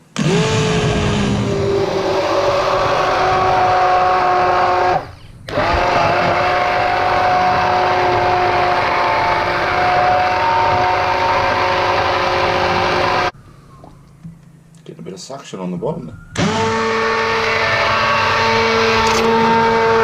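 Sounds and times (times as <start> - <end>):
stick blender whining: 0.0 - 13.4, 16.4 - 20.0.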